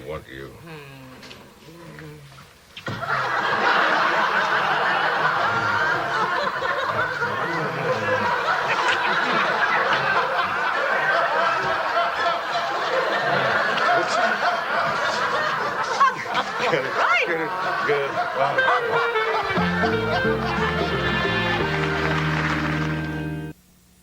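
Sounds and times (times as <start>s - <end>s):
audience laughing: 2.9s - 23.5s.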